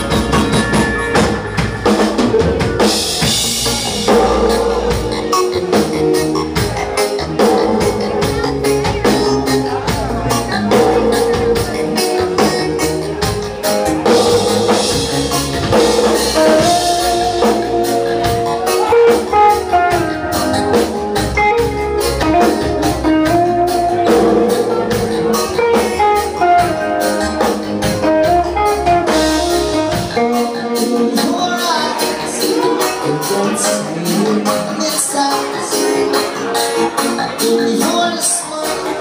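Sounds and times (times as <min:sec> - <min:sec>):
reggae band playing: 0:00.0 - 0:39.0.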